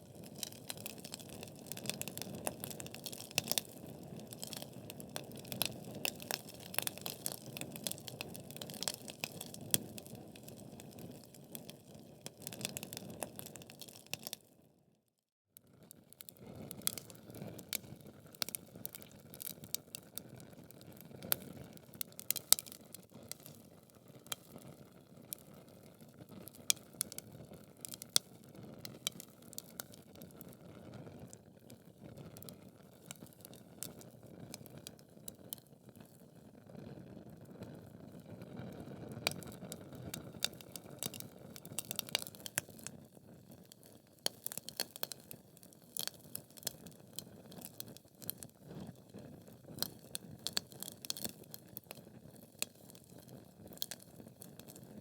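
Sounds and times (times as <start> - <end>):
fire crackles and pops: 0.0 - 14.5, 15.8 - 55.0.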